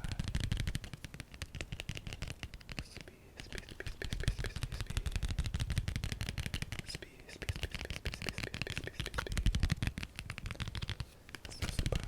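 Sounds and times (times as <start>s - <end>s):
rapid light tapping: 0.0s - 12.0s.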